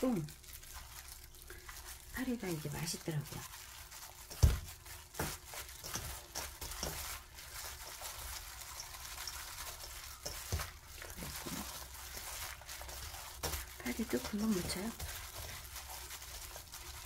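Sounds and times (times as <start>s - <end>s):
wet squishing and rustling: 0.0s - 17.0s.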